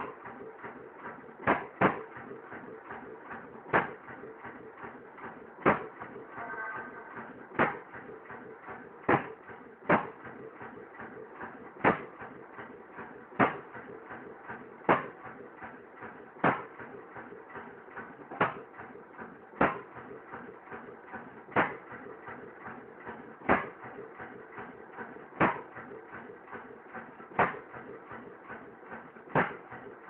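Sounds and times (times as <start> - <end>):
engine mechanical clatter: 0.0 - 30.0.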